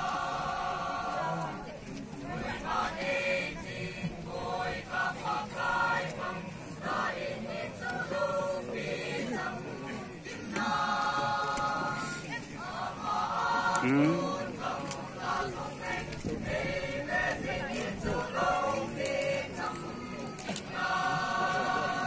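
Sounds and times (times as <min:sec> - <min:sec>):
choir singing in parts: 0:00.0 - 0:22.0.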